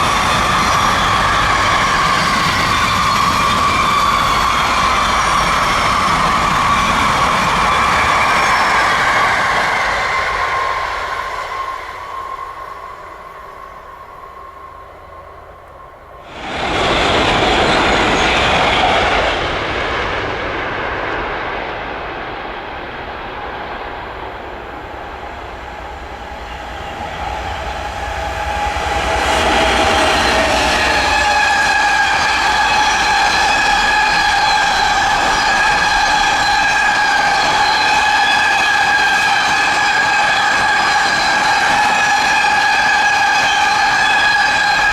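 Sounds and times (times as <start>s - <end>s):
train approaching with hum: 0.0s - 44.9s
train rushing past: 0.0s - 44.9s.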